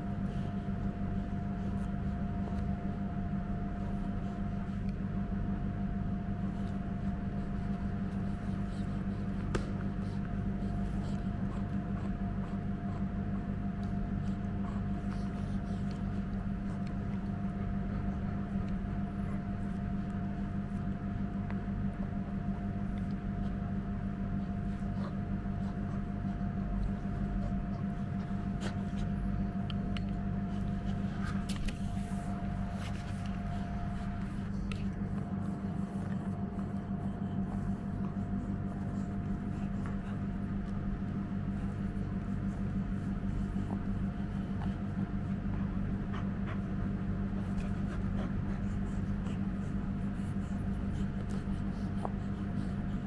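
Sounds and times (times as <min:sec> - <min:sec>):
low hum: 0:00.0 - 0:53.0.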